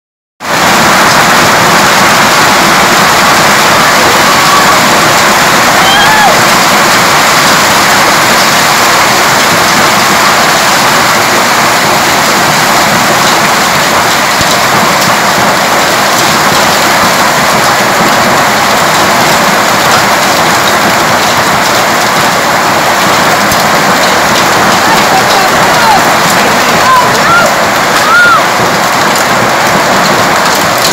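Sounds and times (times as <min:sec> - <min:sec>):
hail and rain pelting: 0:00.4 - 0:30.9.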